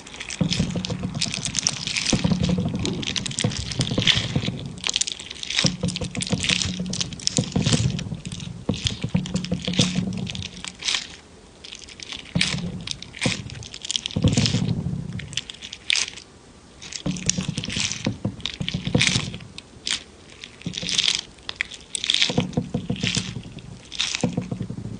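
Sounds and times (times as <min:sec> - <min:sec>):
jelly squishing and popping: 0:00.0 - 0:24.9.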